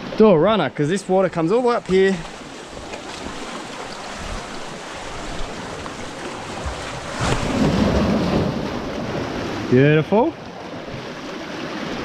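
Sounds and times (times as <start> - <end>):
ocean waves on rocky shore: 0.0 - 12.0.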